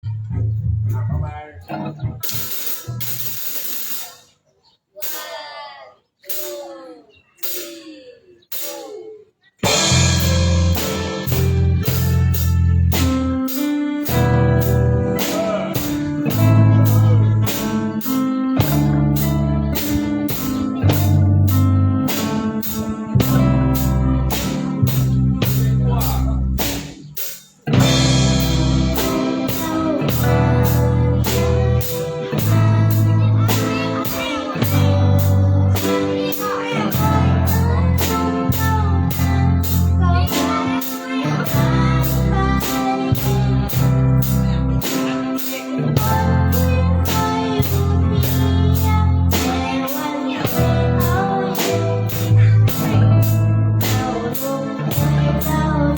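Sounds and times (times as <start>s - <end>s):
deep bass notes: 0.0s - 3.5s, 9.6s - 40.7s, 41.3s - 45.0s, 45.8s - 49.8s, 50.4s - 55.9s
rock band playing: 1.6s - 4.3s, 6.2s - 6.6s, 7.4s - 7.9s, 8.5s - 9.0s, 9.6s - 55.9s
drum cymbals beat: 2.2s - 4.4s, 5.0s - 5.5s, 6.2s - 6.8s, 7.4s - 55.6s.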